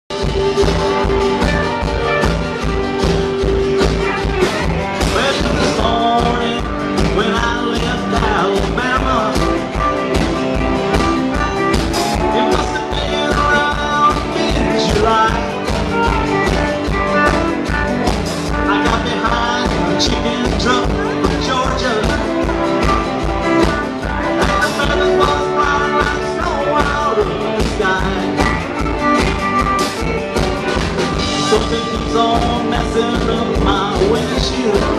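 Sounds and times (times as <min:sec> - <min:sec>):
acoustic guitar: 0:00.1 - 0:34.9
drum kit: 0:00.1 - 0:34.9
electric bass: 0:00.1 - 0:34.9.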